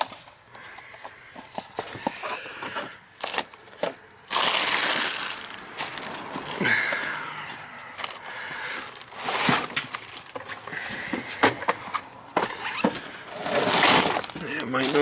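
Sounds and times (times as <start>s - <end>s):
rustling and shuffling of parts: 0.0s - 15.0s.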